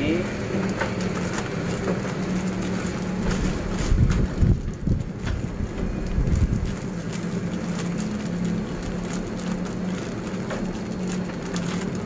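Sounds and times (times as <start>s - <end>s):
low engine hum: 0.0s - 12.0s
plastic bag rustling: 0.0s - 12.0s.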